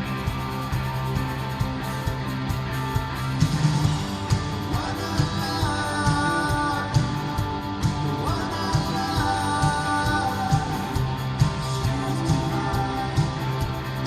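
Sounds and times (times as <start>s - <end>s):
drums: 0.0s - 14.0s
electric guitars: 0.0s - 14.0s.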